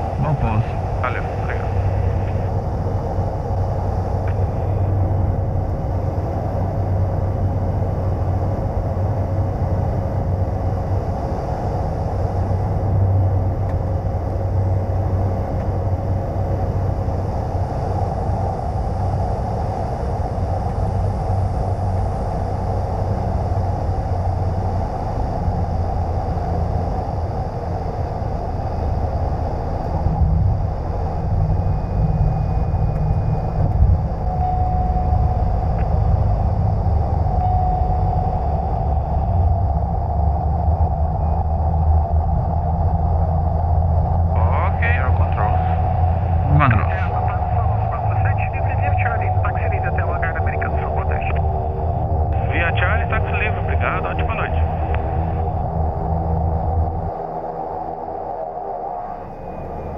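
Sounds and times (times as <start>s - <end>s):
turboprop engine droning: 0.0s - 59.9s.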